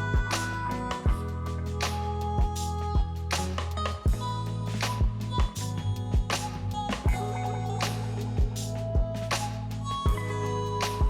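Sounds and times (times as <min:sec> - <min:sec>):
funk instrumental music: 0:00.0 - 0:11.0.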